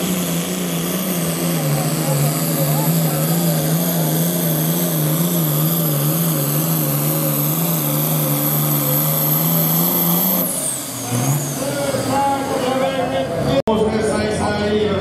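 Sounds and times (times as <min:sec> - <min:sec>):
turbo whine: 0:00.0 - 0:13.3
tractor engine under heavy load: 0:00.0 - 0:15.0.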